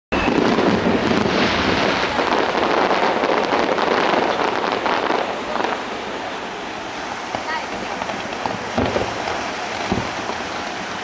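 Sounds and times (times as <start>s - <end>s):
fireworks bursts and crackles: 0.1s - 11.0s.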